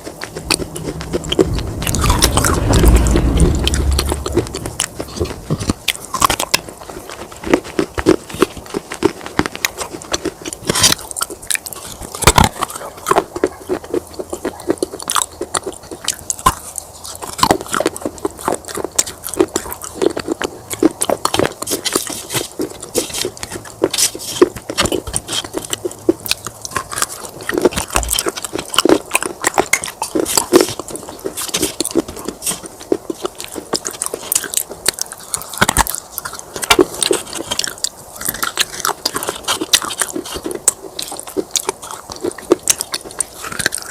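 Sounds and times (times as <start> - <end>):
clay pieces crunching in mouth: 0.0 - 43.9.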